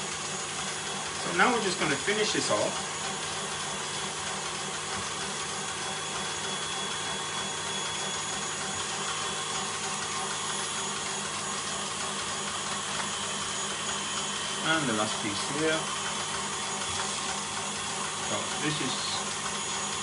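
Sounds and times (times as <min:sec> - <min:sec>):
small motor whirring: 0:00.0 - 0:20.0.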